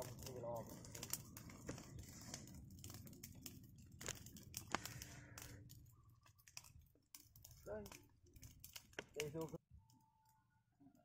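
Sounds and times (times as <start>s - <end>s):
twigs snapping: 0.0s - 9.6s
dry leaves and twigs crackling: 0.0s - 10.4s.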